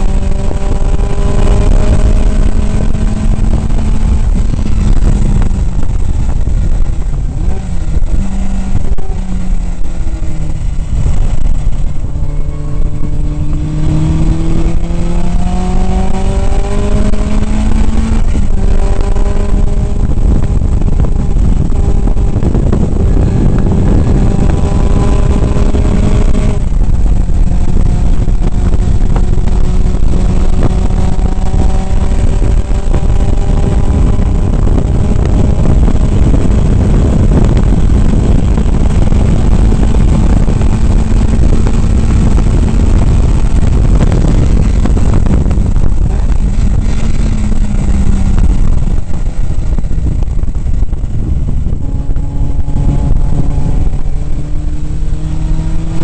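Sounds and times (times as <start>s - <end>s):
low wind and road rumble: 0.0s - 56.0s
race car engine revving: 0.0s - 56.0s.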